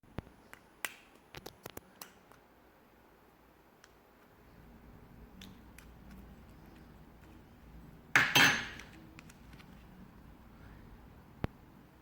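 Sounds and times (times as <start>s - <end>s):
faint low hum: 0.1s - 12.0s.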